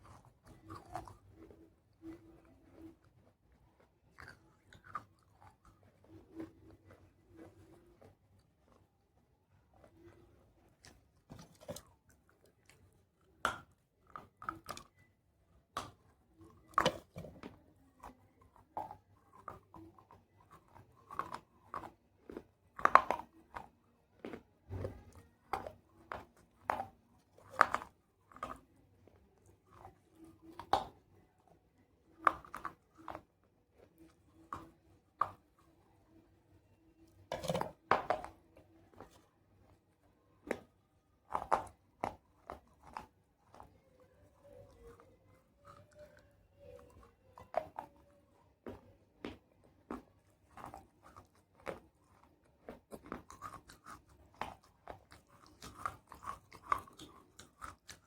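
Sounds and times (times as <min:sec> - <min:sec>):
crunching and chewing clay: 0:00.0 - 0:58.0.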